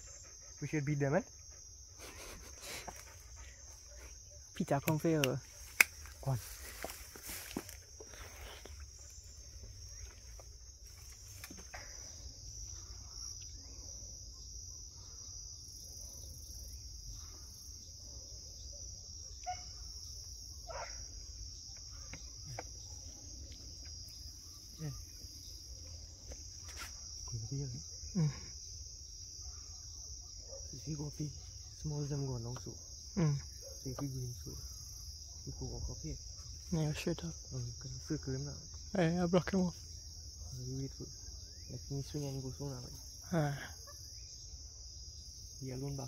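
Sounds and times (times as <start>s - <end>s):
night insects chirring: 0.0s - 46.0s.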